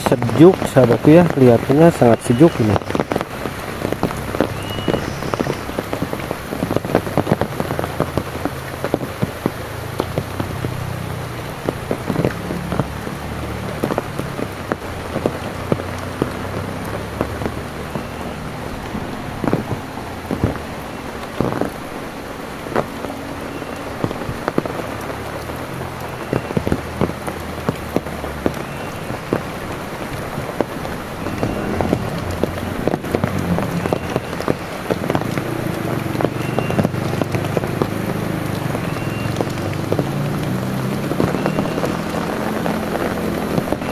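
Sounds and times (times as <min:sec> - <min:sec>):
heavy rain falling: 0:00.0 - 0:43.9
sharp raindrops striking close: 0:00.0 - 0:43.9.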